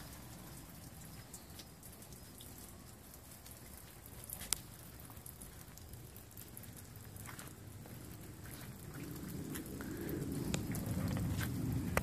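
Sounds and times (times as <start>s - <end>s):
drops ticking: 0.0s - 12.0s
rain falling: 0.0s - 12.0s.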